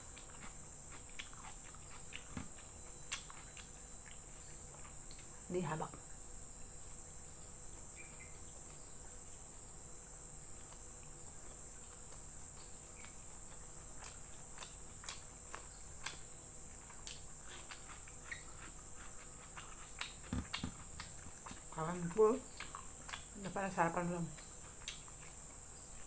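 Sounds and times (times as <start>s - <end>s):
person chewing food: 0.0s - 5.5s, 10.4s - 26.0s.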